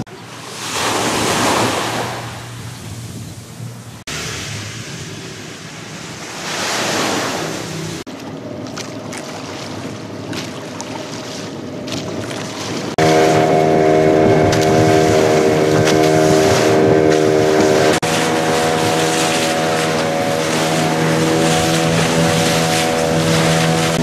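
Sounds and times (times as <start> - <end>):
loud engine drone: 0.0 - 24.0
water noise: 0.0 - 24.0
wind: 0.0 - 24.0.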